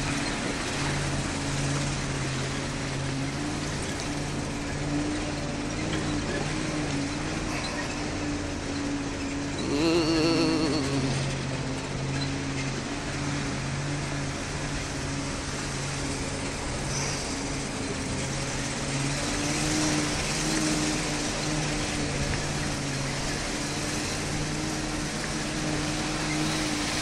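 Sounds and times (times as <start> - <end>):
jeep engine droning: 0.0 - 27.0
road noise: 0.0 - 27.0.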